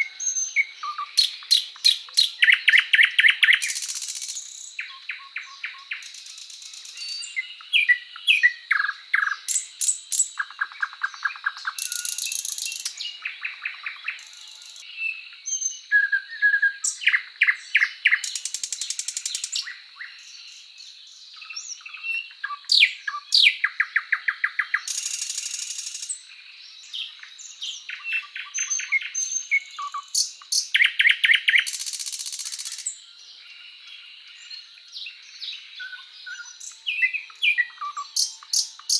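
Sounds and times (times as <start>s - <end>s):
birdsong trills and chirps: 0.0s - 38.9s.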